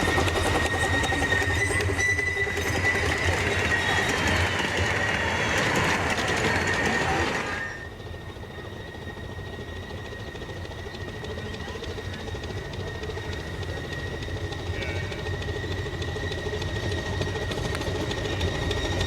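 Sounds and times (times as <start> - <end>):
steady train rumble: 0.0 - 19.0
thin high whine: 0.0 - 19.0
train wheels clattering: 0.0 - 19.0.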